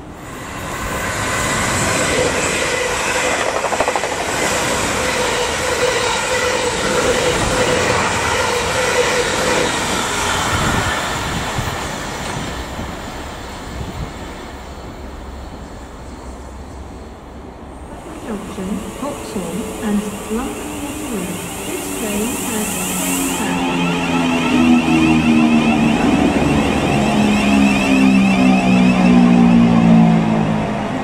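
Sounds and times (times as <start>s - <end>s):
passenger train passing at speed: 0.0s - 31.0s.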